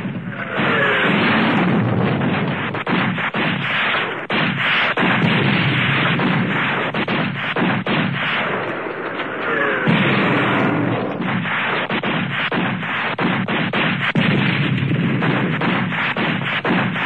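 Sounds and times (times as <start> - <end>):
explosions: 0.0 - 17.0
heavy gunfire: 0.0 - 17.0.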